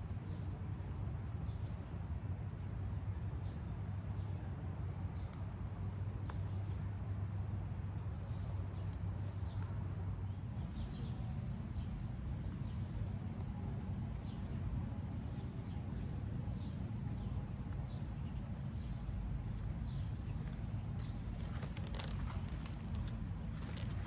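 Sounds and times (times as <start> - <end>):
steady low rumble: 0.0 - 24.0
small birds chirping: 3.0 - 24.0.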